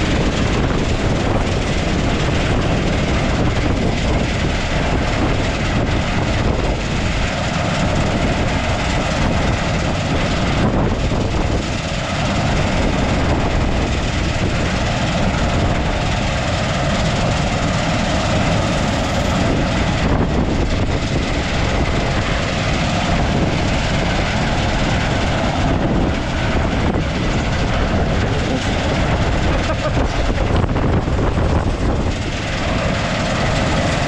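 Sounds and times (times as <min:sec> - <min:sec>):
farm vehicle engine running: 0:00.0 - 0:34.0.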